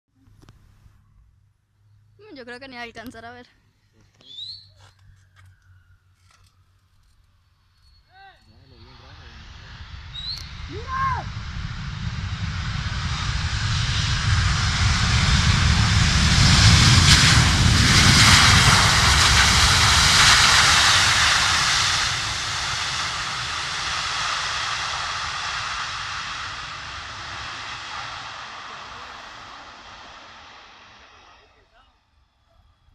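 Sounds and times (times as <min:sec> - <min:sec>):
jet engines passing low: 0:04.3 - 0:32.9.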